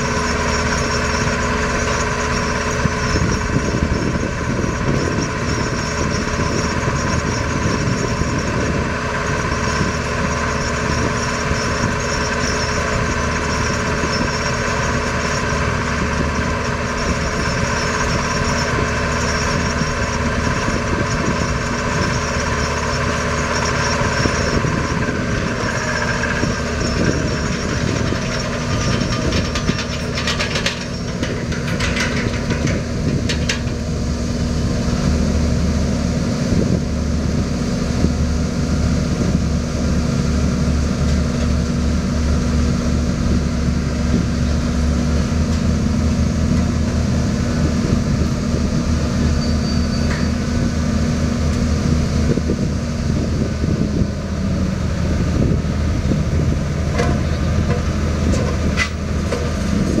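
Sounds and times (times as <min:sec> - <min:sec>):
vibratory pile hammer humming: 0:00.0 - 0:49.4.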